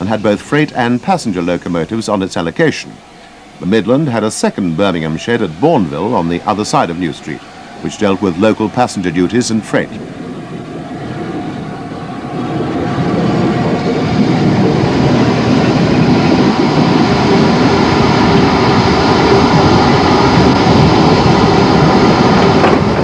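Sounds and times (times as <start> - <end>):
steam locomotive moving: 0.0 - 23.0.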